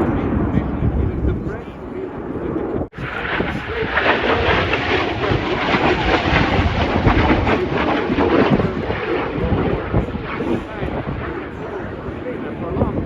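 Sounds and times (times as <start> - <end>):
loud rushing rumble: 0.0 - 13.0.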